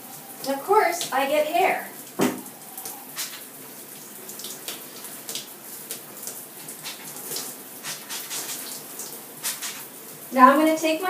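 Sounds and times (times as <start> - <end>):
shower water splashing: 0.0 - 11.0.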